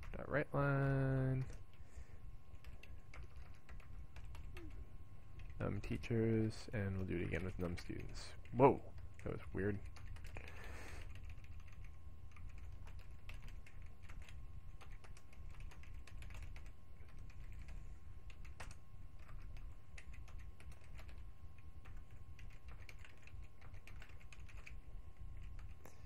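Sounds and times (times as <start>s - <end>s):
steady low hum: 0.0s - 26.0s
keyboard typing: 2.5s - 6.1s, 6.9s - 26.0s.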